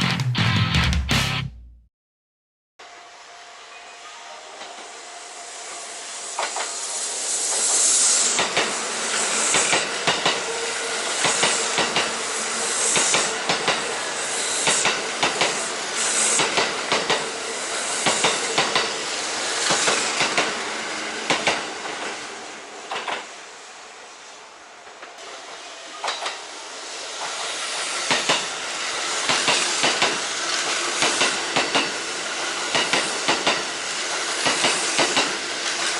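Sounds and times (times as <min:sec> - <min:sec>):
electric train passing: 0:02.8 - 0:35.9
hissing surges: 0:04.9 - 0:24.2, 0:26.4 - 0:35.9.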